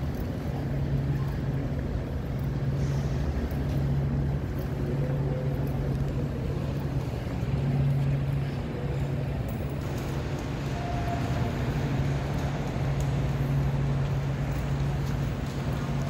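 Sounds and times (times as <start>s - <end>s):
low hum of metro station: 0.0s - 16.0s.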